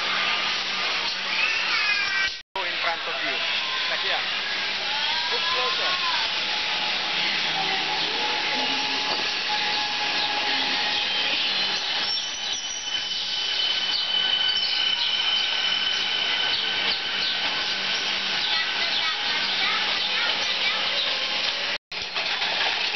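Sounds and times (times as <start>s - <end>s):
electric train rolling past: 2.6s - 22.9s
high-pitched whining tones: 2.8s - 21.8s.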